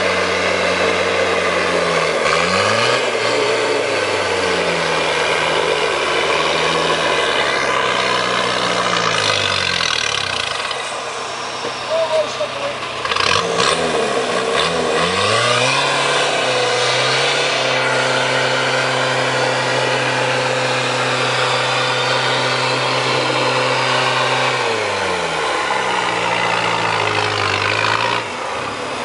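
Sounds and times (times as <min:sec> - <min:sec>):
diesel engine revving: 0:00.0 - 0:29.0.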